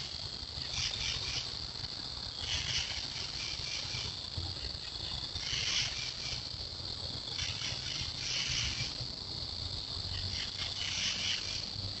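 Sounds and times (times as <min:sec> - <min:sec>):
crickets and insects chirring: 0:00.0 - 0:12.0.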